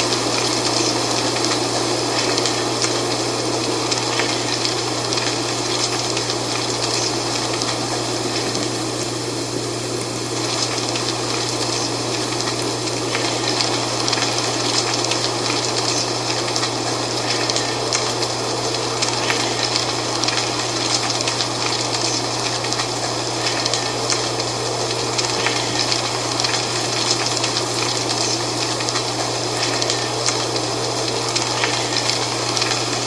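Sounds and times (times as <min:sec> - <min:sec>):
dry leaves rustling in wind: 0:00.0 - 0:33.0.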